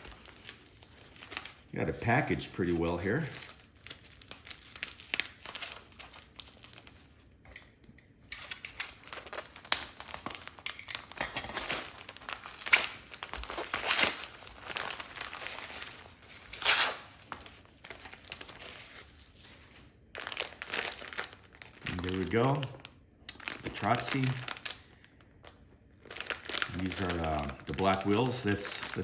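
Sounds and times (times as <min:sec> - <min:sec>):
packaging crinkling and tearing: 0:00.0 - 0:07.2, 0:08.3 - 0:29.0.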